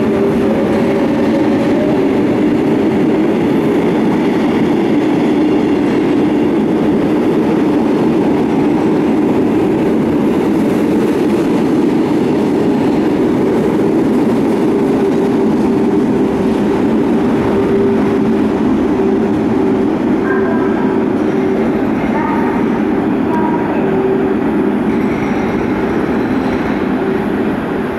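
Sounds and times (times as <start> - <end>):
train rumbling past: 0.0 - 27.9.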